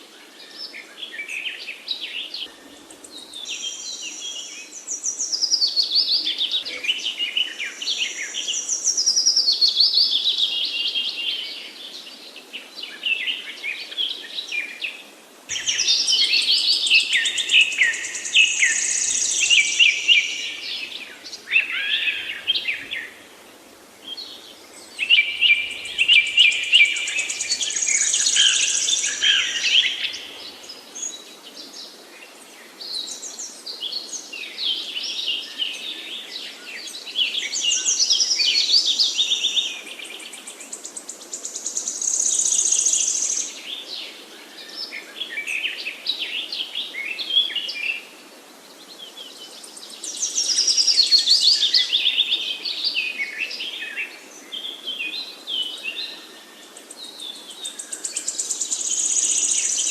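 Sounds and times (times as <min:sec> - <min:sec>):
faint steady background hiss: 0:00.0 - 0:59.9
songbirds singing: 0:00.0 - 0:59.9.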